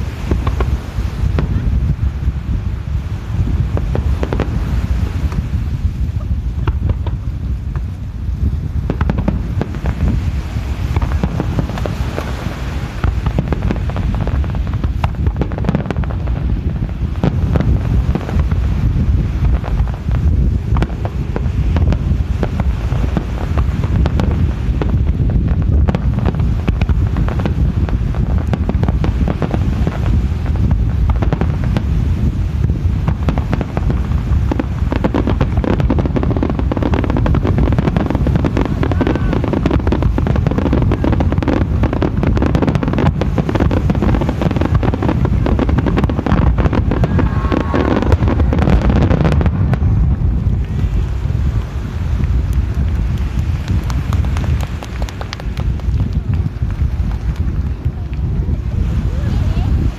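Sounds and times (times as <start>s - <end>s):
fireworks bangs and crackles: 0.0s - 59.9s
wind rumble on microphone: 0.0s - 59.9s.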